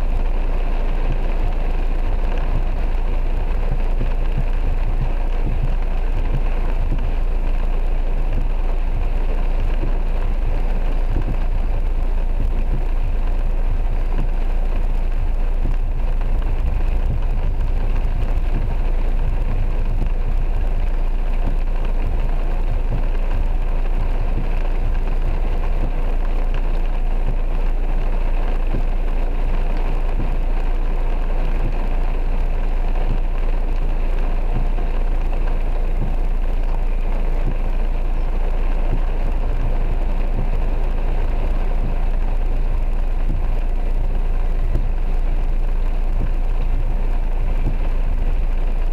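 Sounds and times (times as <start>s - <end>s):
rain on car roof: 0.0s - 48.9s
steady low hum: 0.0s - 48.9s.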